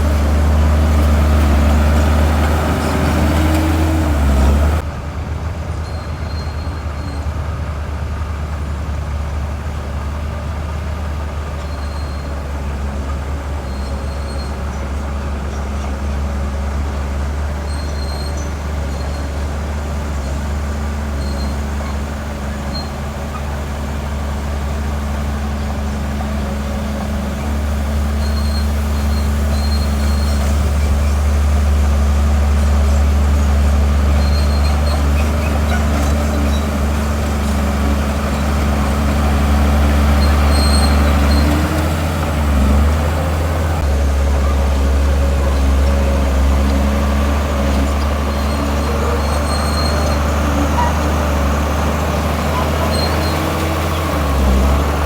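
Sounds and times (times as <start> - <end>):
heavy diesel engine drone: 0.0 - 55.0.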